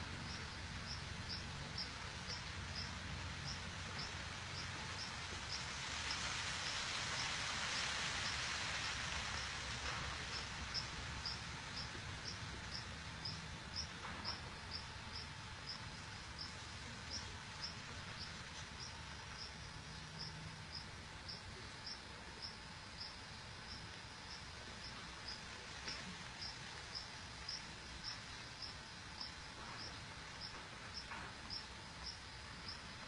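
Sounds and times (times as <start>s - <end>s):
insect chirping: 0.0s - 33.0s
outdoor hiss: 0.0s - 33.0s.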